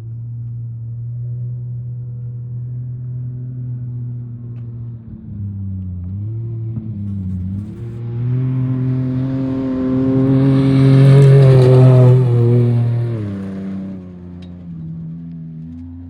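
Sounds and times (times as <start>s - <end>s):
off-road vehicle engine passing by: 0.4s - 16.0s.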